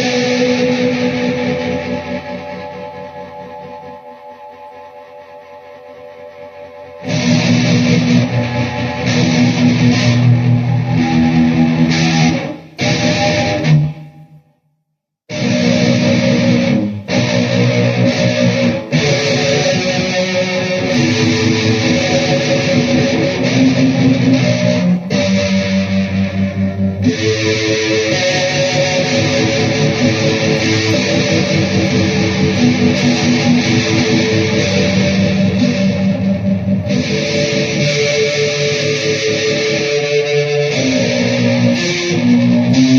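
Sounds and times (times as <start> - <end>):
electric guitar: 0.0 - 14.5, 15.3 - 42.9.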